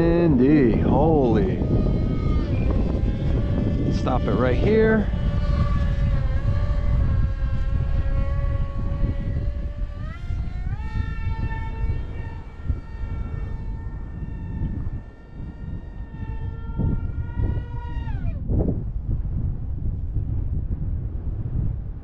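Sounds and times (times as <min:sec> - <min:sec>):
electric motor whining: 0:00.0 - 0:19.1
wind rumble on microphone: 0:00.0 - 0:22.0.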